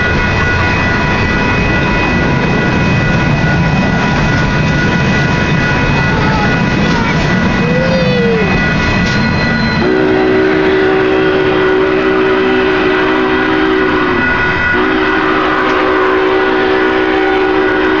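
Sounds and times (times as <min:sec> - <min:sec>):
rumble of passing railcars: 0:00.0 - 0:18.0
steam locomotive chime whistle: 0:00.0 - 0:18.0.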